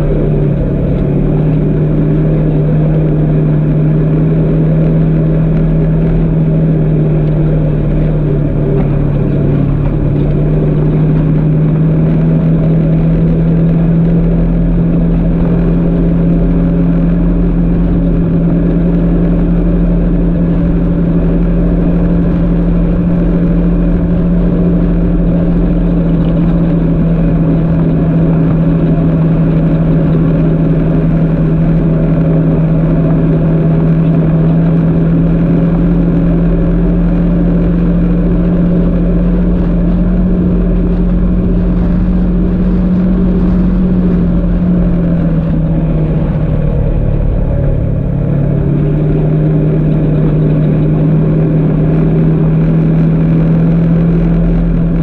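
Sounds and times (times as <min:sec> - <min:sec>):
off-road vehicle engine drone: 0:00.0 - 0:55.0.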